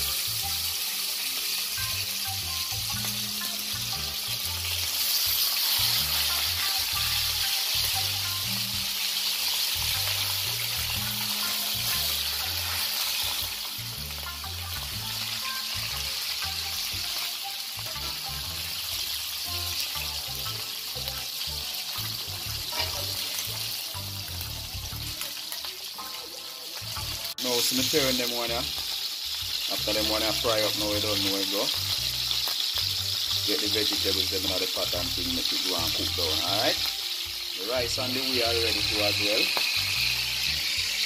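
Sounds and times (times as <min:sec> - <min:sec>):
background music: 0:00.0 - 0:41.0
fish sizzling in hot oil: 0:00.0 - 0:41.0.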